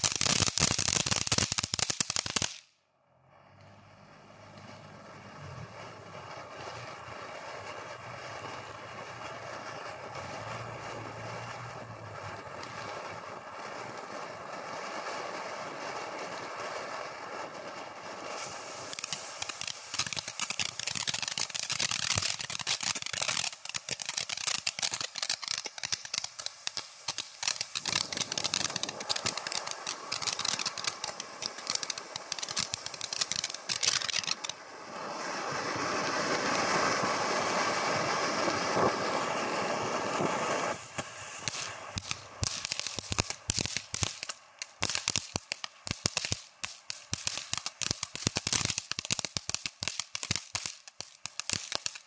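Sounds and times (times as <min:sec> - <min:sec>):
fountain firework crackling: 0:00.0 - 0:52.0.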